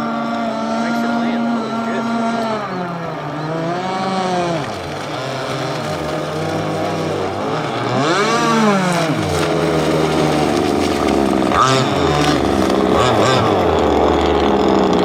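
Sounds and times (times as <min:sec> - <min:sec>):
model boat engines running: 0:00.0 - 0:15.0.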